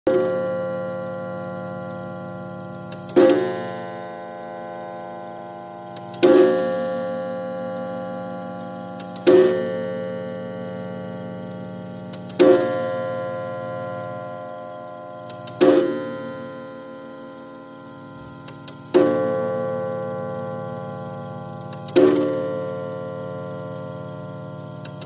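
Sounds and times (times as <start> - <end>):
clock hammer striking wire gong: 0.1 - 25.0.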